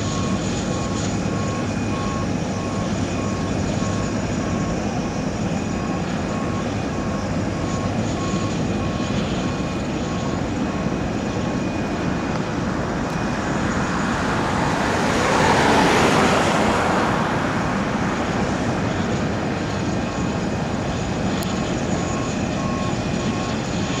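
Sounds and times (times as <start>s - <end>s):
reversing alarm beeping: 0.0s - 24.0s
rumble of engines and machinery: 0.0s - 24.0s.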